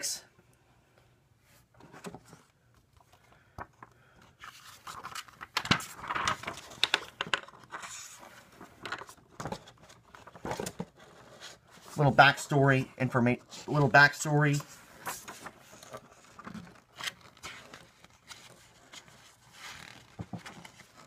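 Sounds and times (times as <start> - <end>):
paper pages rustling: 1.8 - 21.0.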